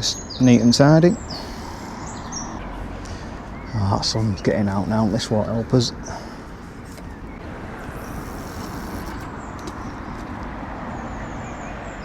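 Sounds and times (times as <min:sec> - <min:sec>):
distant engine rumble: 0:00.0 - 0:12.0.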